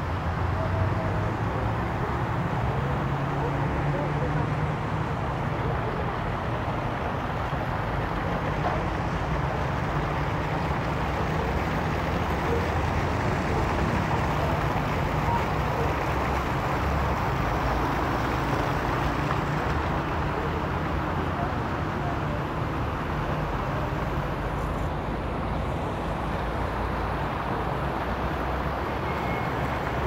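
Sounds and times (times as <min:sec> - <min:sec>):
fountain jets splashing into pool: 0:00.0 - 0:30.0.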